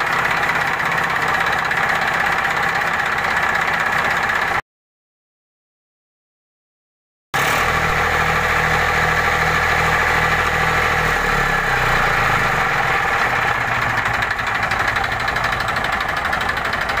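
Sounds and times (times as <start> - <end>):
tractor diesel engine running: 0.0 - 4.6, 7.4 - 17.0.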